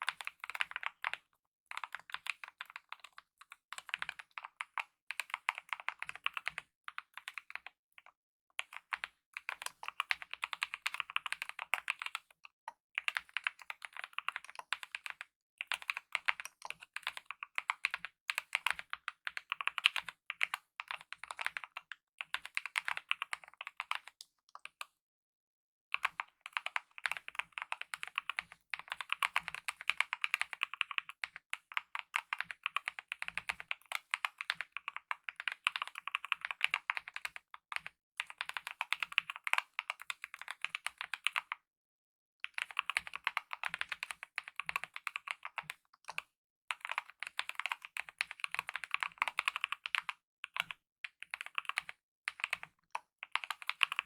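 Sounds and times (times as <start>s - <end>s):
mechanical keyboard typing: 0.1s - 3.2s, 3.8s - 7.7s, 8.6s - 12.4s, 13.0s - 24.7s, 26.0s - 41.5s, 42.5s - 54.0s.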